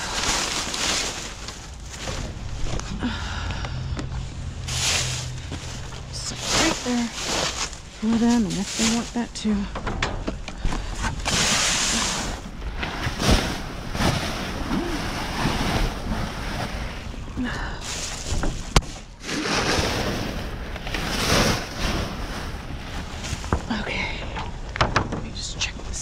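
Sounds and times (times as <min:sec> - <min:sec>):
plastic bags and cardboard rustling: 0:00.0 - 0:25.9.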